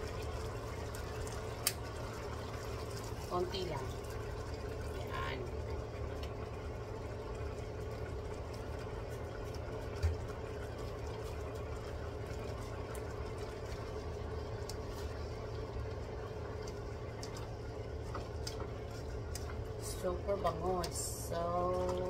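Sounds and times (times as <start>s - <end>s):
food simmering in a wok: 0.0s - 22.0s
steady low hum: 0.0s - 22.0s.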